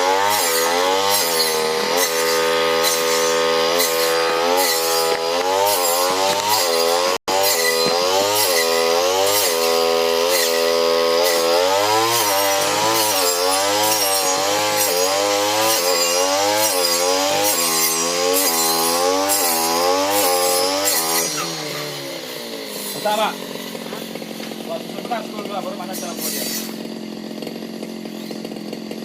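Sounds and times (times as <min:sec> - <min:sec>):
blade chopping plant stalks: 0:00.0 - 0:29.0
grass cutter engine running: 0:00.0 - 0:29.0.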